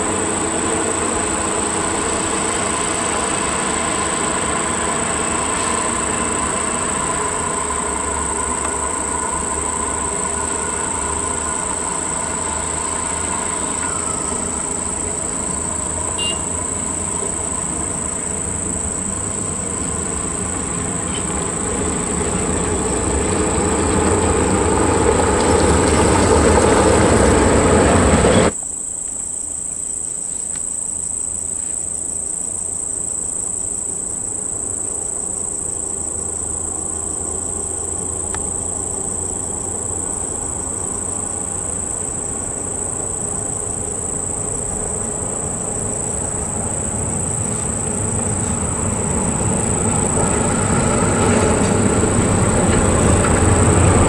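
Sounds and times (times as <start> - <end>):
distant diesel truck rumble: 0.0 - 28.6, 31.3 - 54.0
truck diesel engine: 0.0 - 28.6, 31.0 - 54.0
insects buzzing: 0.0 - 54.0.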